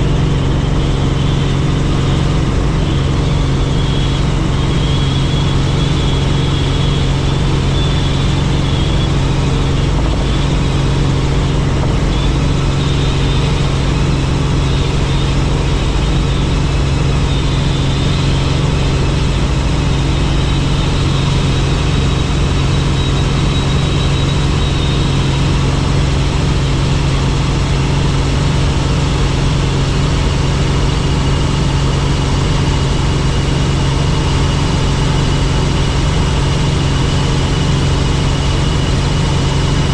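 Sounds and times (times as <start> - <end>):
faint high whine: 0.0 - 39.9
helicopter engine and rotor drone: 0.0 - 39.9.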